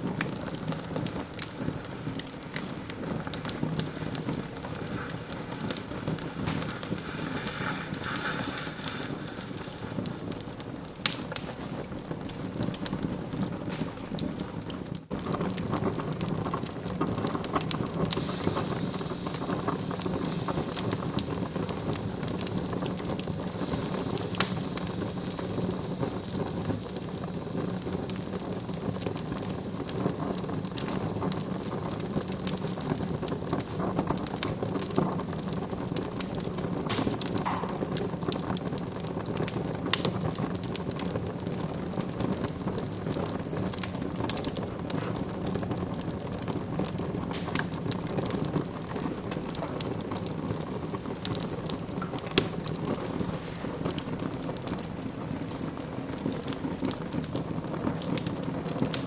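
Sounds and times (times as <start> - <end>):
fire pops: 0.0 - 59.0
wood fire crackling: 0.0 - 59.0.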